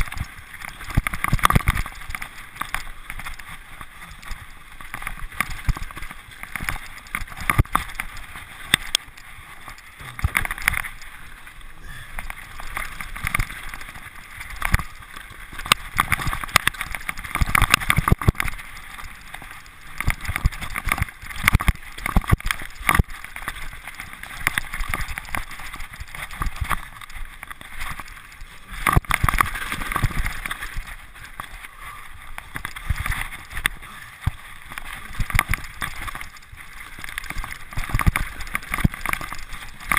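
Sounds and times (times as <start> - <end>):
bike tyres rattling over stones: 0.0 - 39.9
steady rushing noise: 0.0 - 39.9.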